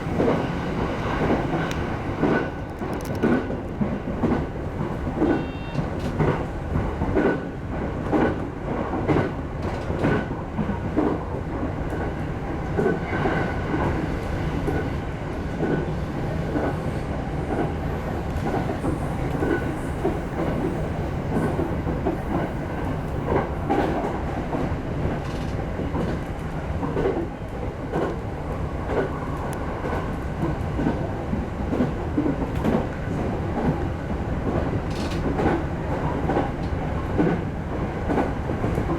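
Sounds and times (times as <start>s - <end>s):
electric train rumble: 0.0s - 38.9s
train wheels clickety-clack: 0.0s - 38.9s.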